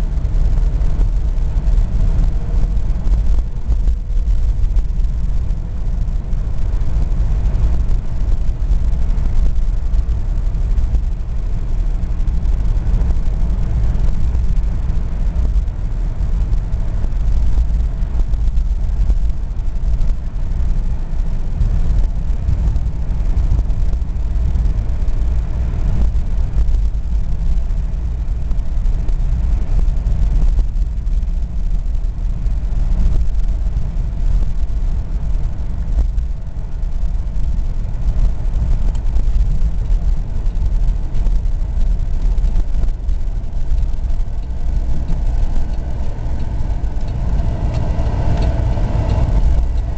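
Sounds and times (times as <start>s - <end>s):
car cabin engine and road rumble: 0.0s - 49.9s.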